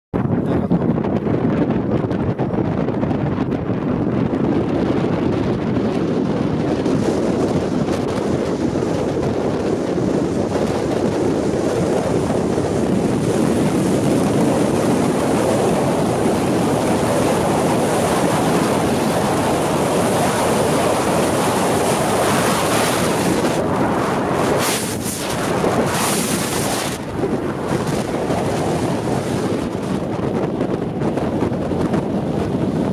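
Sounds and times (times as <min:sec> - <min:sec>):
strong wind on microphone: 0:00.2 - 0:32.9.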